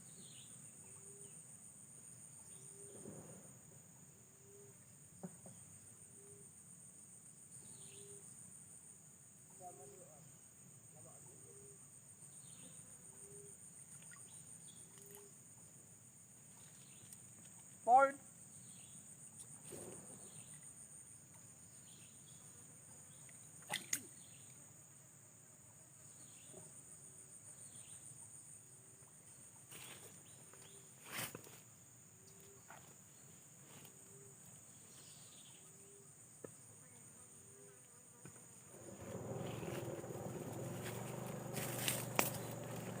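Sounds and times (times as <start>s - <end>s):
insects chirring: 0.0s - 43.0s.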